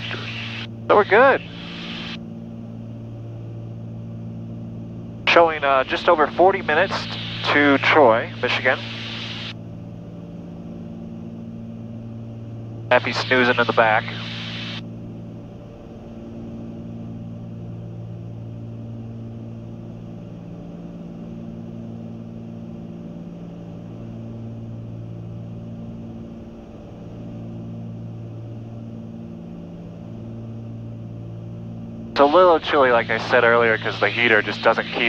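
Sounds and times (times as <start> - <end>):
aircraft engines and propellers droning: 0.0 - 35.0.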